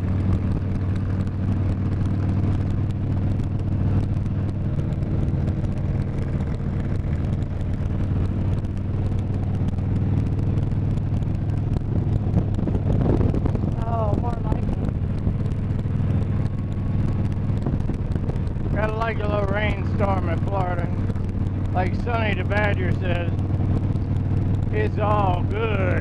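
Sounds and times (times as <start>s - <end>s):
motorcycle engine cruising: 0.0s - 26.0s
wind rushing past microphone: 0.0s - 26.0s.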